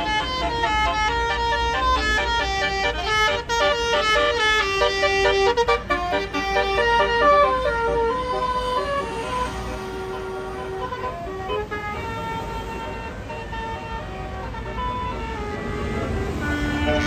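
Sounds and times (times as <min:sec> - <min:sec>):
bus horn playing a tune: 0:00.0 - 0:17.0
low engine rumble: 0:00.0 - 0:17.0.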